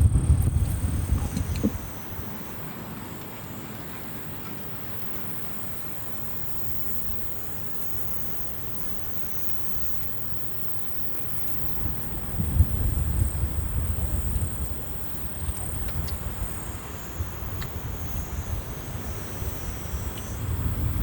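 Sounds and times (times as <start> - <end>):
high thin insect chorus: 0.1 - 21.0.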